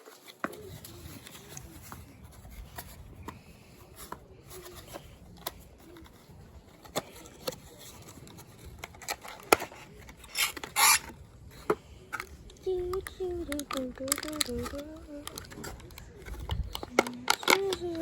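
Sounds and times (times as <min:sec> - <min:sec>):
objects clicking and knocking: 0:00.0 - 0:18.0
rustling: 0:00.0 - 0:18.0.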